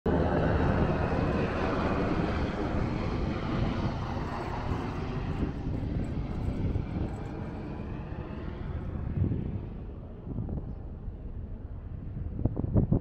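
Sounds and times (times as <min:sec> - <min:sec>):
helicopter flying past: 0:00.1 - 0:13.0.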